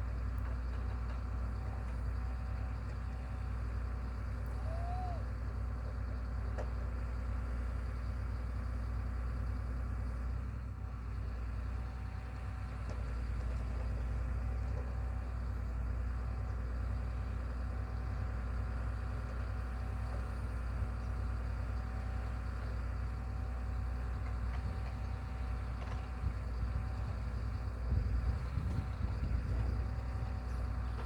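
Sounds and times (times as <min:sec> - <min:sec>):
heavy machine engine droning: 0:00.0 - 0:31.0.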